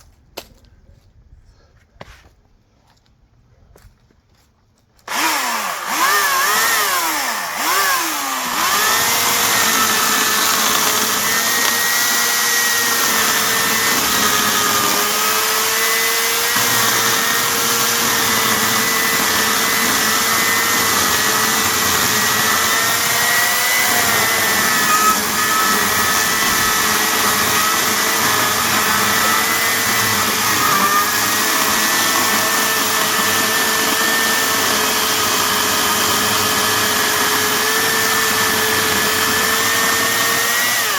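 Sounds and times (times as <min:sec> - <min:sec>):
electric chainsaw motor whine: 0:05.1 - 0:40.9.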